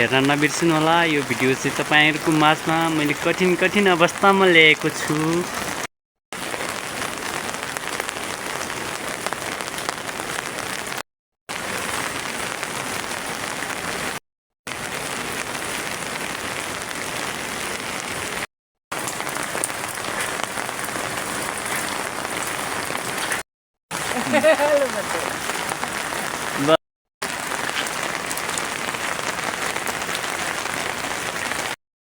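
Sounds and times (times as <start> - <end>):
heavy rain falling: 0.0 - 31.8.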